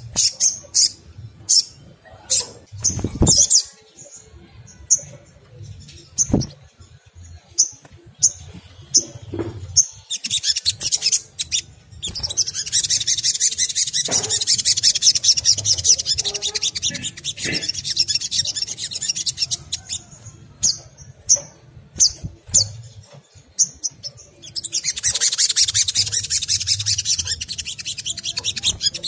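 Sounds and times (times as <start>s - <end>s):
bird chirping and twittering: 0.0s - 29.0s.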